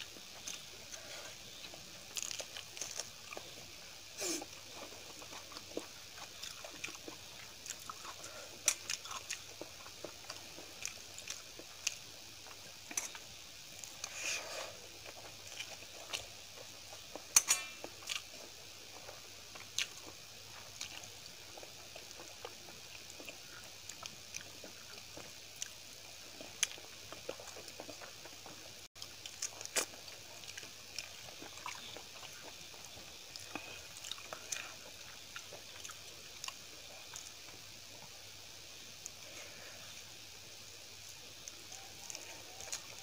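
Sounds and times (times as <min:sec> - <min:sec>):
wet chewing: 0:00.2 - 0:03.6, 0:04.2 - 0:38.1.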